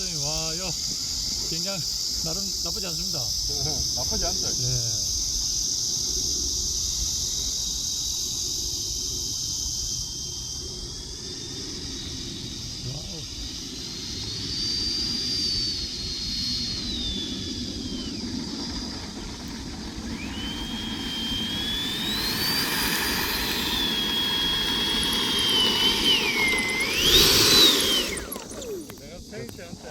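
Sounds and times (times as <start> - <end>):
electric ducted fan whine: 0.0 - 29.9.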